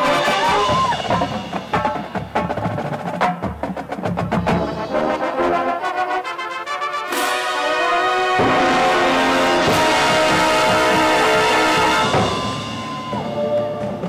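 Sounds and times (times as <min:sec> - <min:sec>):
brass chords: 0:00.0 - 0:03.5, 0:04.3 - 0:14.0
marching band percussion: 0:00.0 - 0:14.0.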